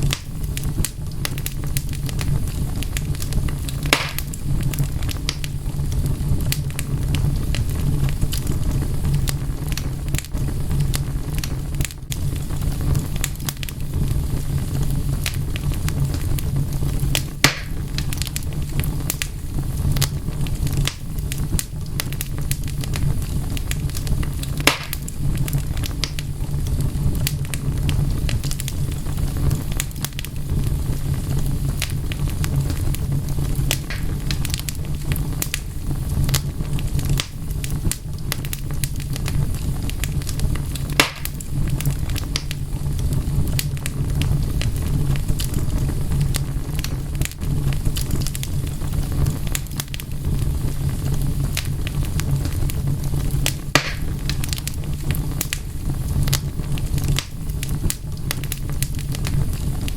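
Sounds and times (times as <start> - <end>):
low fire rumble: 0.0 - 59.9
sharp fire pops: 0.0 - 59.9
wood fire crackling: 0.0 - 59.9.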